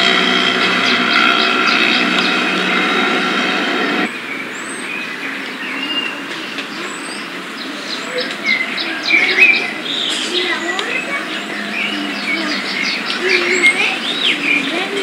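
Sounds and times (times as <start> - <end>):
small birds chirping: 0.0 - 15.0
steady mechanical hum: 0.0 - 15.0.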